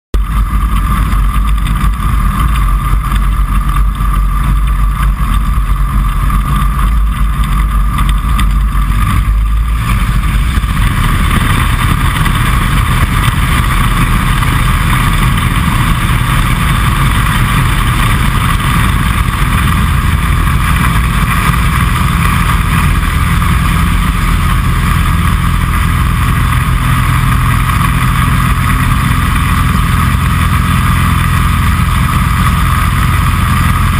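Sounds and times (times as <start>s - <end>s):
light aircraft engine and propeller: 0.2s - 33.9s.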